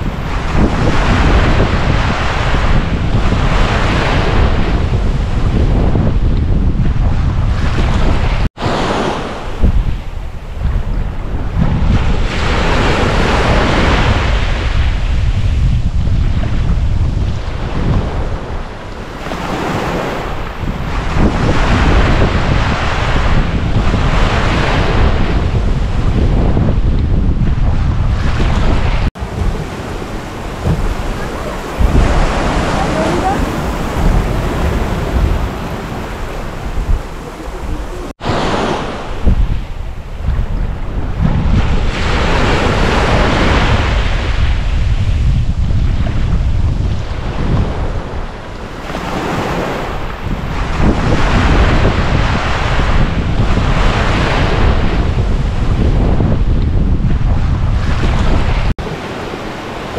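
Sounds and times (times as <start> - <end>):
ocean surf breaking: 0.0 - 6.0, 7.1 - 15.6, 16.2 - 45.0, 46.9 - 55.8, 57.7 - 59.9
wind buffeting microphone: 0.0 - 59.9.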